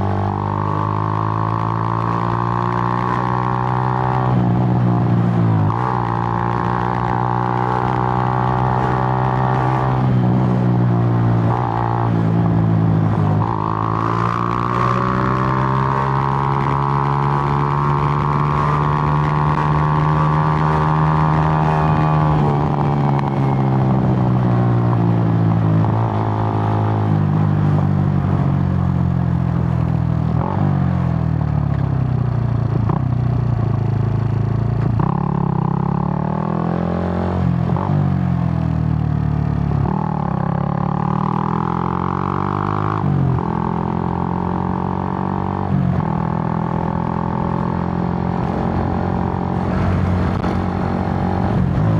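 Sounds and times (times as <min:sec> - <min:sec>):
motorcycle engine revving: 0:00.0 - 0:31.8, 0:32.6 - 0:51.9.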